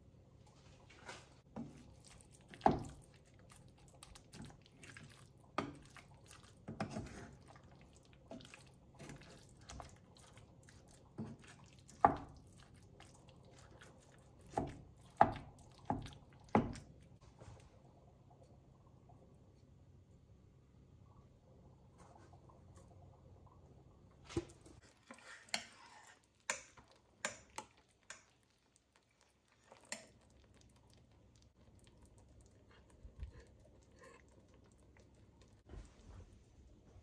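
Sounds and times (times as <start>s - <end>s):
soft squishing of mashing: 0.0s - 37.0s.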